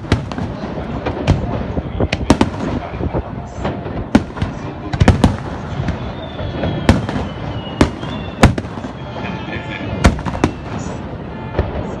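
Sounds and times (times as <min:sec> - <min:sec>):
firework bangs: 0:00.0 - 0:12.0
firework crackle: 0:00.0 - 0:12.0.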